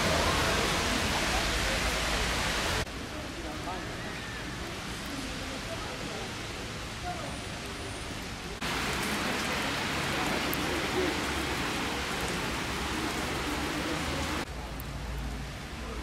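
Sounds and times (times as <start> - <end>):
rain on wet paving: 0.0 - 16.0.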